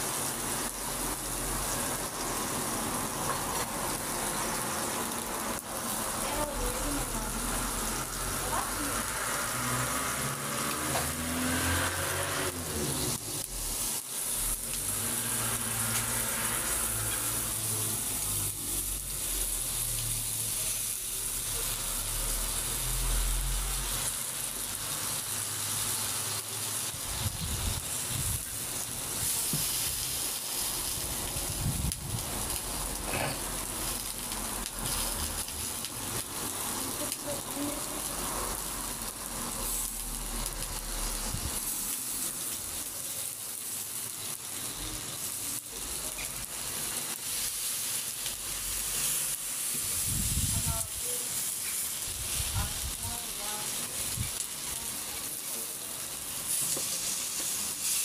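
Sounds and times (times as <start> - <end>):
vegetables sizzling on a griddle: 0.0 - 58.0.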